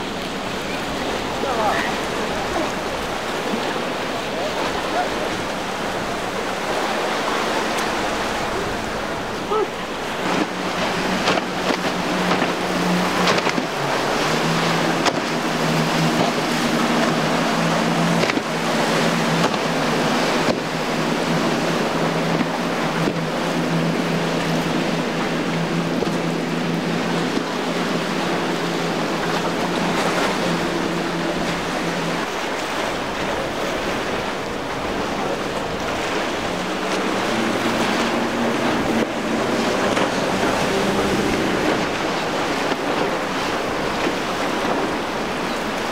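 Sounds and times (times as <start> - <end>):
outboard motor engine hum: 0.0 - 45.9
water splashing: 0.0 - 45.9.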